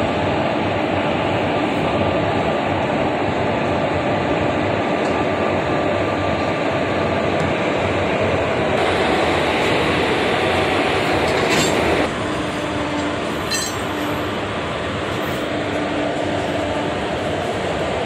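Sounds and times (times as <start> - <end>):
electric locomotive running: 0.0 - 18.0.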